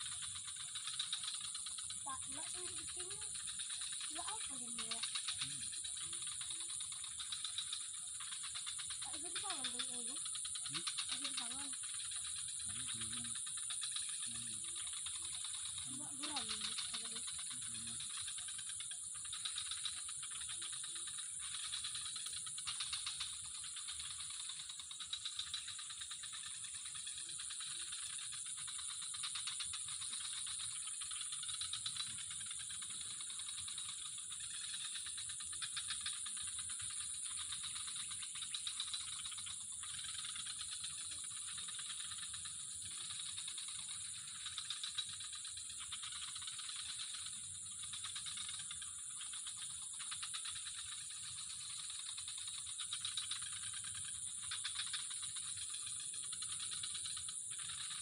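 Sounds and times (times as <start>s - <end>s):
insects chorus shrilling: 0.0s - 58.0s.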